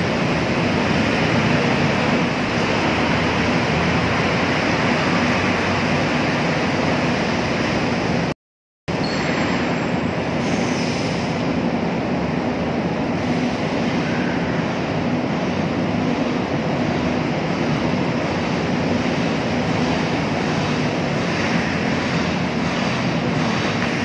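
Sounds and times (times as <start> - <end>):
heavy machinery drone: 0.0 - 8.3, 8.9 - 24.0.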